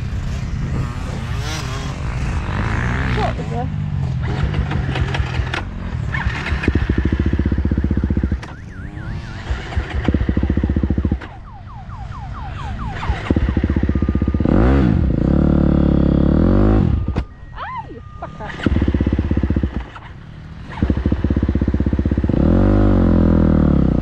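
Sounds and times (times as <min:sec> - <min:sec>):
motocross bike engine revving: 0:00.0 - 0:11.2, 0:12.9 - 0:17.1, 0:18.2 - 0:24.0.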